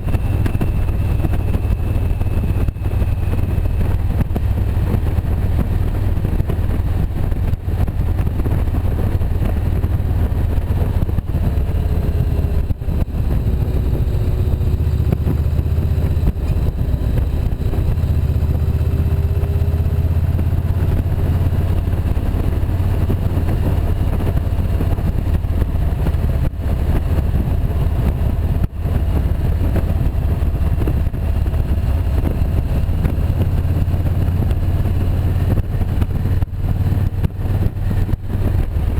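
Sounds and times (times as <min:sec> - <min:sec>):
motorcycle engine rumble: 0:00.0 - 0:38.9.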